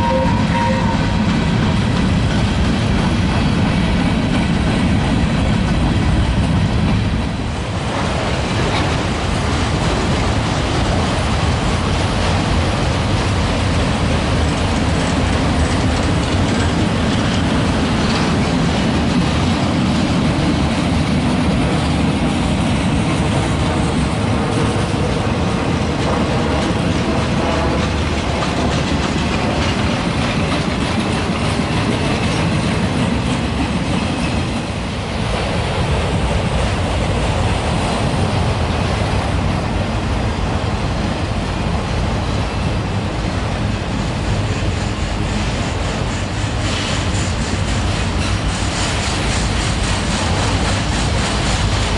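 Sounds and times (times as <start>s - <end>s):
rumble of passing railcars: 0.0s - 51.9s
train wheels on rails: 0.0s - 51.9s.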